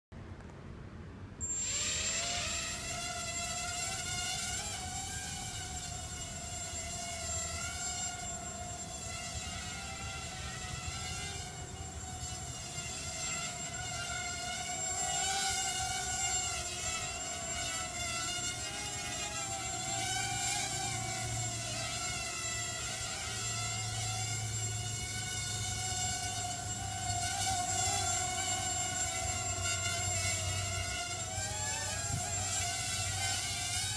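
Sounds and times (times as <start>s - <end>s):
quadcopter motors whining: 1.4s - 33.9s.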